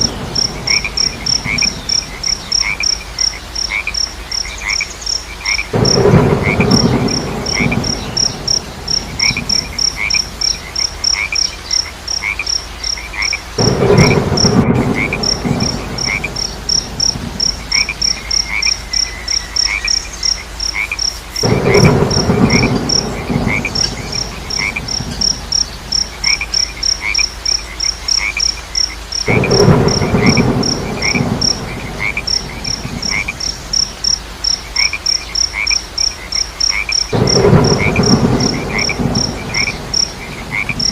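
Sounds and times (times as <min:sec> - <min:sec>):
frogs croaking: 0:00.0 - 0:40.9
high pulsing insect chirp: 0:00.0 - 0:40.9.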